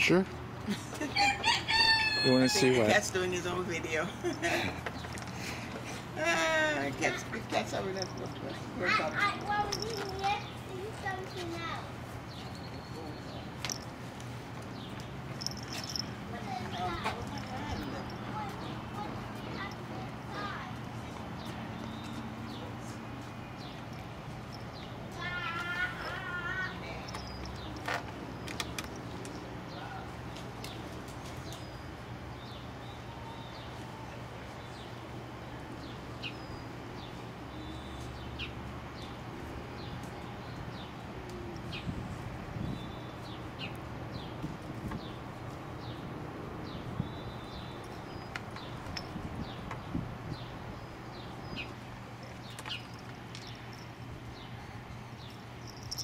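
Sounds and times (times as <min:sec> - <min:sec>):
small birds chirping: 0:02.2 - 0:56.0.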